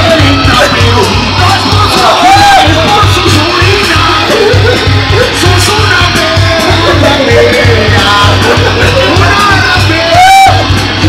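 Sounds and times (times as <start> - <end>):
loud rock music: 0.0 - 11.0
person singing or shouting: 0.0 - 11.0.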